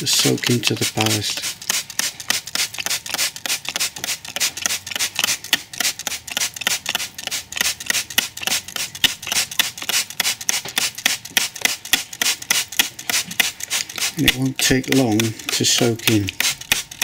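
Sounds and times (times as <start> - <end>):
spray bottle hissing: 0.0 - 17.0.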